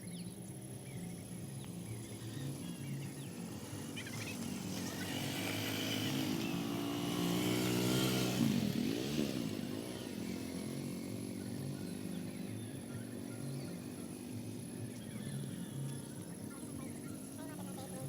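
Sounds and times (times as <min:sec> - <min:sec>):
motorcycle engine passing by: 0:00.2 - 0:18.0.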